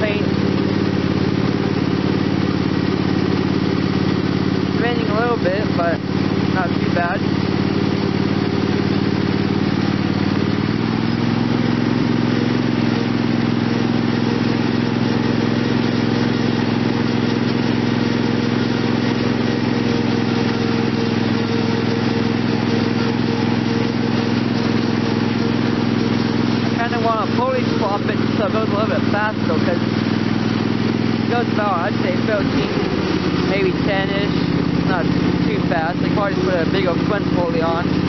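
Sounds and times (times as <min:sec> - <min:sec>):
lawn tractor engine running: 0:00.0 - 0:38.0.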